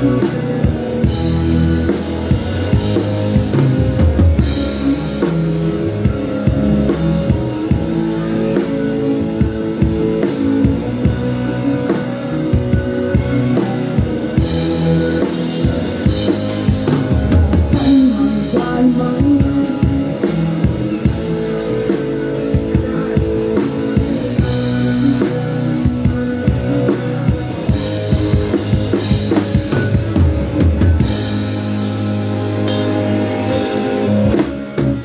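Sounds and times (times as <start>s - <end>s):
drum kit beats: 0.0s - 35.0s
guitar: 0.0s - 35.0s.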